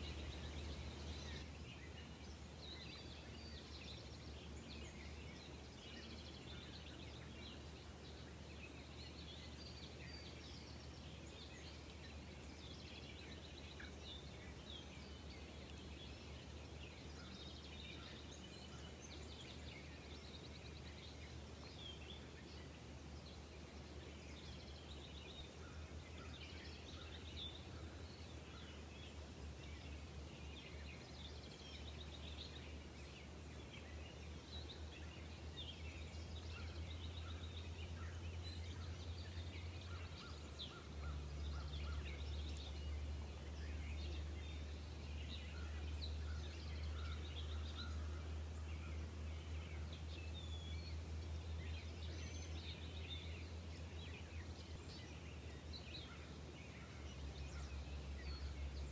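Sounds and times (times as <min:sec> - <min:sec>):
songbirds chirping and trilling: 0:00.0 - 0:58.9.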